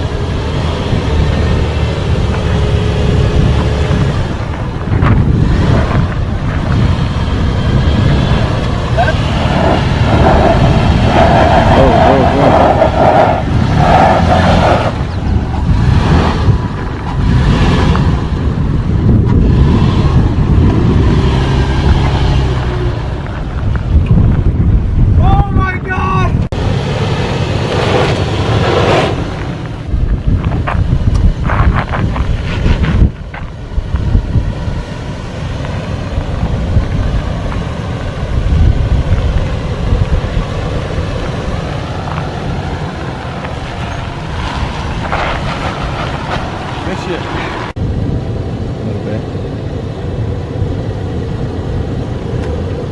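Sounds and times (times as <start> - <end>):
truck engine rumbling off-road: 0.0 - 52.9.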